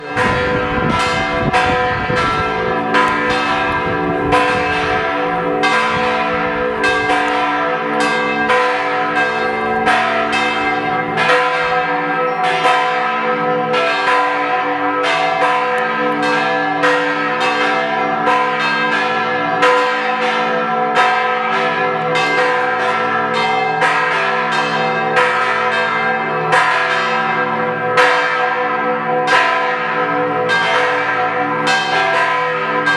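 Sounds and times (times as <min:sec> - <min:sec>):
church bell ringing: 0:00.0 - 0:32.9.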